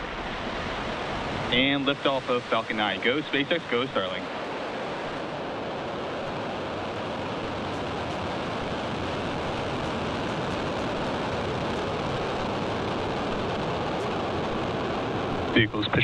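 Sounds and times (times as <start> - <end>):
rocket engines rumbling hiss: 0.0 - 16.0.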